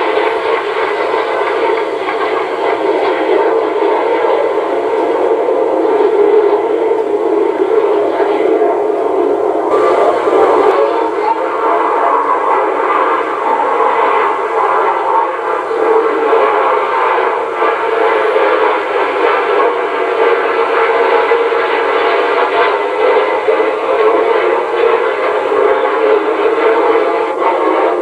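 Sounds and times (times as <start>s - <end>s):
jet engines whining: 0.0s - 28.0s.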